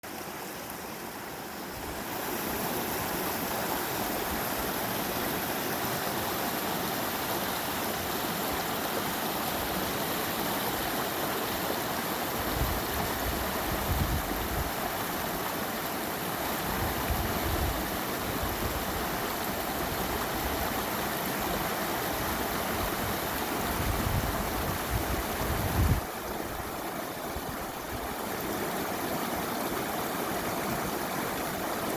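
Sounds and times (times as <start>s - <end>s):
water rushing over rocks: 0.1s - 31.9s.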